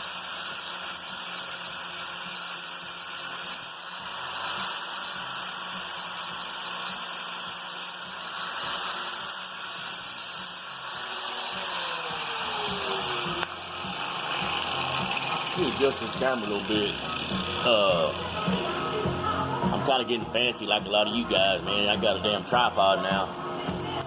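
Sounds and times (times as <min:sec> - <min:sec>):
angle grinder grinding steel: 0:00.0 - 0:23.8.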